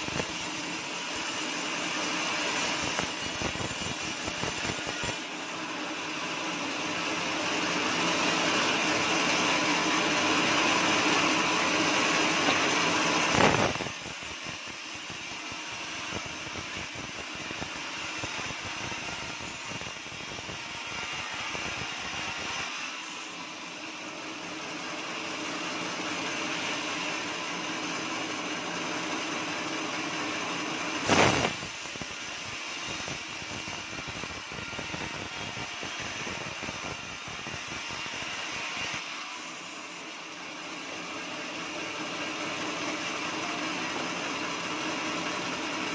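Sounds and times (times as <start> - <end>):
band sawmill cutting wood: 0.0 - 45.9.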